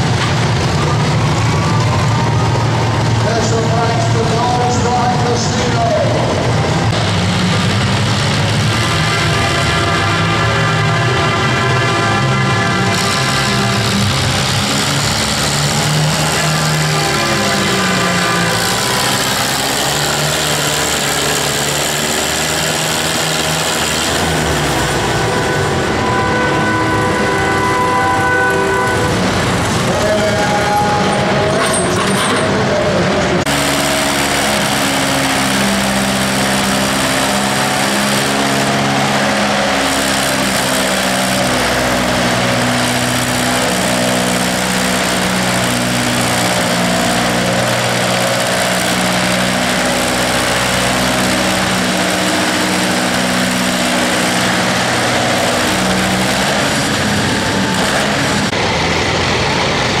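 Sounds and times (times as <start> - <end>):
tractor engine running hard: 0.0 - 60.0.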